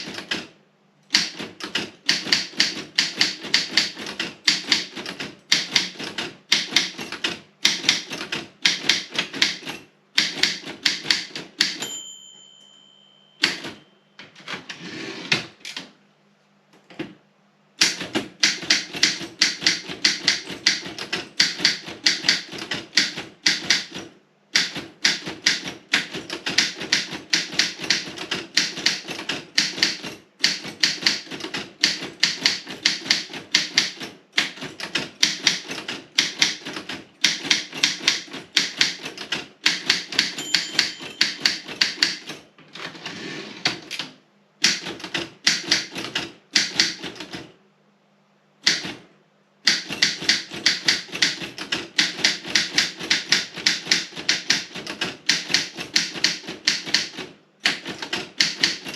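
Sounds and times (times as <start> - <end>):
typewriter keystrokes: 0.0 - 11.9, 13.4 - 15.9, 17.8 - 47.5, 48.6 - 49.0, 49.6 - 58.9.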